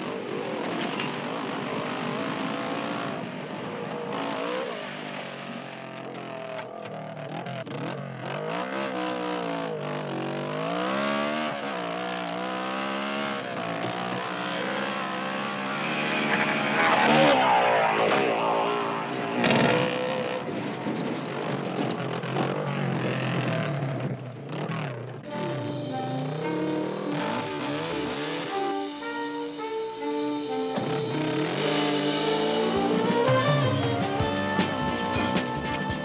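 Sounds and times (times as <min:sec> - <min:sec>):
car engine revving: 0:00.0 - 0:35.8
dirt bike engines revving: 0:00.0 - 0:36.0.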